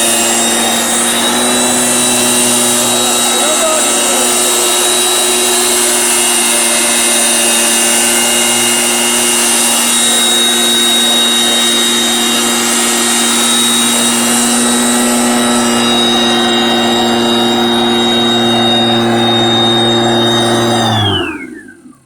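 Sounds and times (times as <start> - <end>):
loud hiss of spray: 0.0 - 19.7
small engine running steadily: 0.0 - 22.0.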